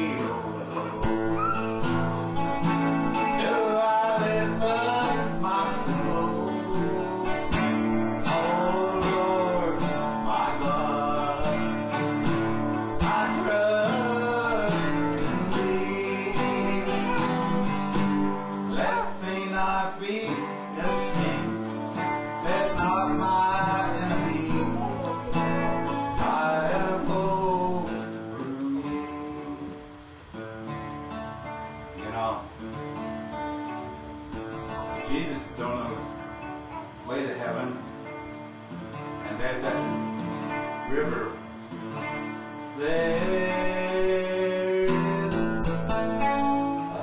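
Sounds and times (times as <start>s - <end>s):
country gospel music with guitar: 0.0s - 47.0s.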